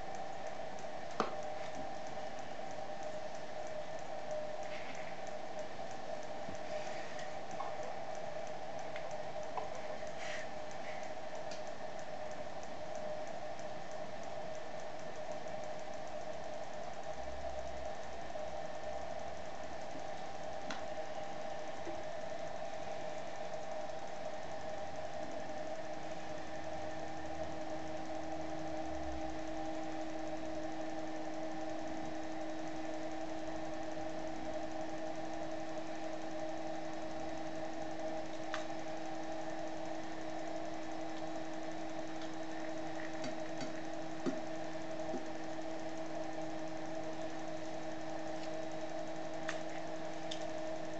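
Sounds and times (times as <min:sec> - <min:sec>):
machine hum with held tones: 0:00.0 - 0:50.9.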